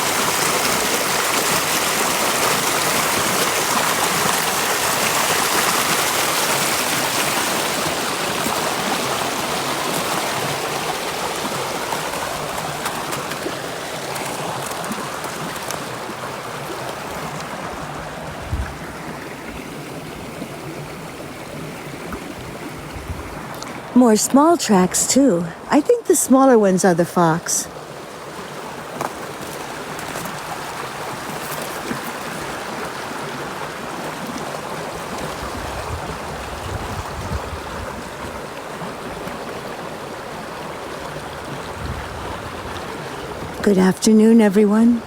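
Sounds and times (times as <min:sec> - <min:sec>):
stream water running: 0:00.0 - 0:45.0.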